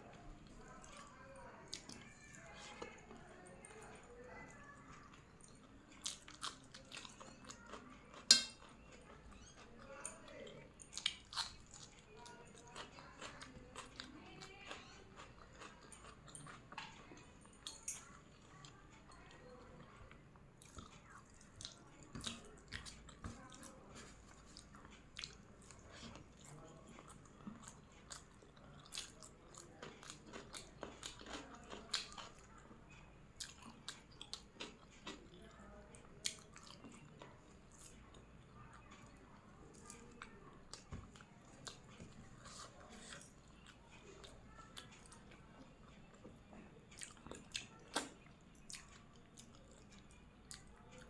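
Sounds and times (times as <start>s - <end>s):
person chewing food: 5.0s - 51.0s.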